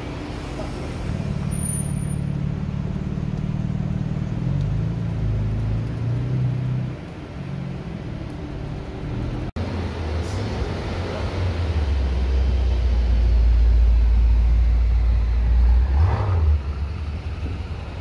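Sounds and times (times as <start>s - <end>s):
car engine passing by: 2.3s - 18.0s.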